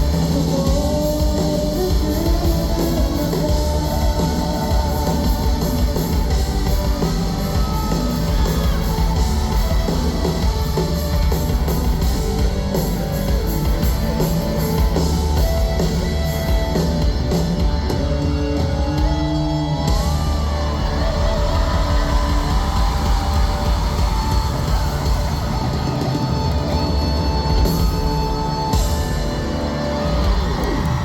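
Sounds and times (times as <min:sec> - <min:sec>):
drums: 0:00.0 - 0:31.0
electric guitars: 0:00.0 - 0:31.0.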